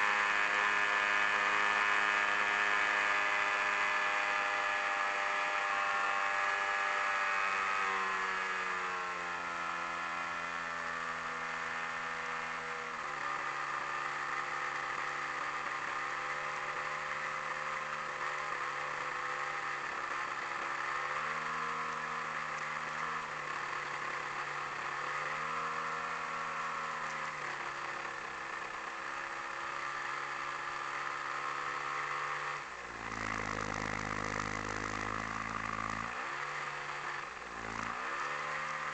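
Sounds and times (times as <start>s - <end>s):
model plane engine running: 0.0s - 9.0s, 10.5s - 38.9s.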